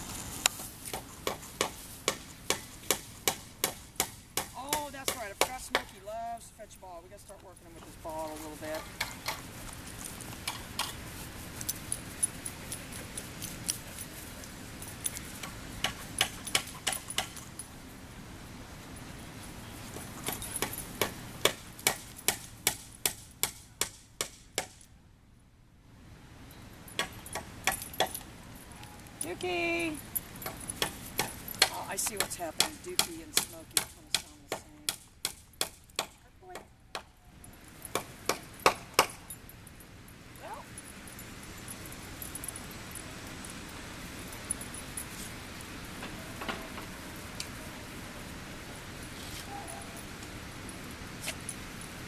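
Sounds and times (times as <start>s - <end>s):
outdoor background noise: 0.0s - 52.0s.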